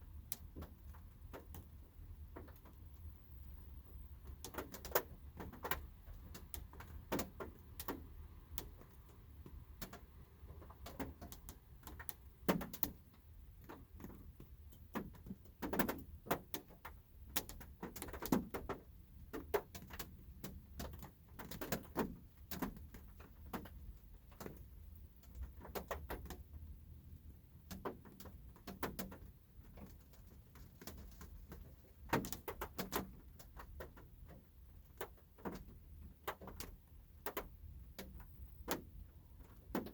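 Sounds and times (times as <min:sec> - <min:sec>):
raindrops tapping on car roof: 0:00.1 - 0:39.9.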